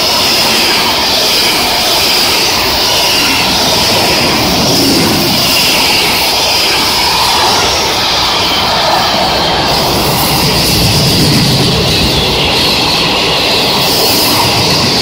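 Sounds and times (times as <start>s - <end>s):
freight train wheels rolling on rails: 0.0s - 15.0s.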